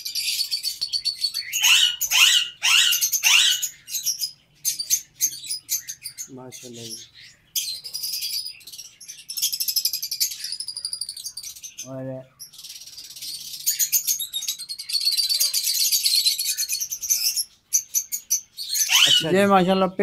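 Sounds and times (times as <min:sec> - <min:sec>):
lovebirds chirping: 0:00.0 - 0:20.0.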